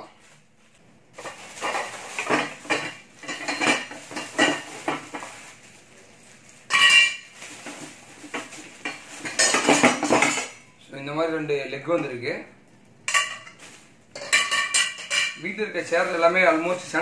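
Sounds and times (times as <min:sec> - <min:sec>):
plastic wrapping crinkling: 0:00.0 - 0:10.1, 0:13.2 - 0:17.0.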